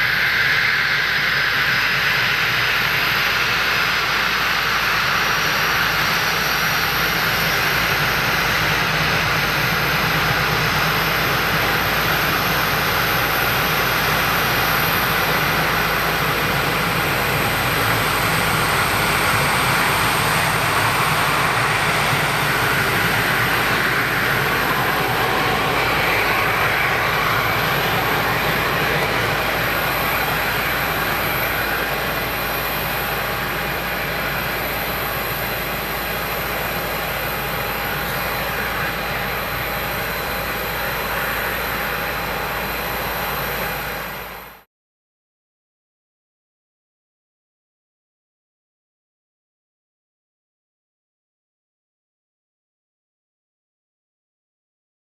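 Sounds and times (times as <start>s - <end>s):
jet engines running: 0.0s - 44.6s.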